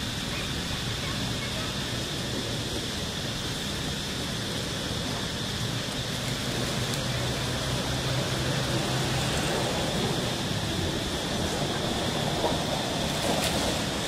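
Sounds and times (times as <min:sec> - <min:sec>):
even hiss: 0:00.0 - 0:14.0.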